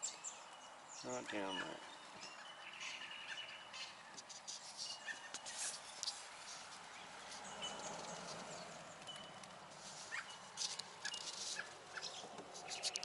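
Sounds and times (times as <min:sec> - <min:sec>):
bird chirps and calls: 0:00.0 - 0:13.0.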